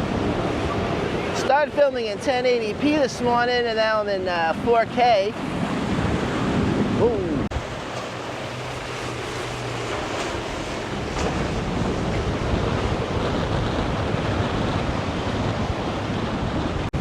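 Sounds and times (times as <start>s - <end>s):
boat engine drone: 0.0s - 17.0s
waves and surf: 0.0s - 17.0s
wind buffeting microphone: 0.0s - 17.0s.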